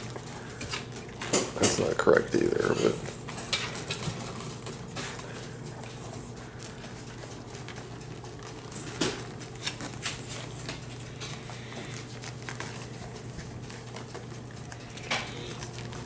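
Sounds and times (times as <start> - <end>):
dogs scuffling in wooden box: 0.0 - 16.0
steady low hum: 0.0 - 16.0.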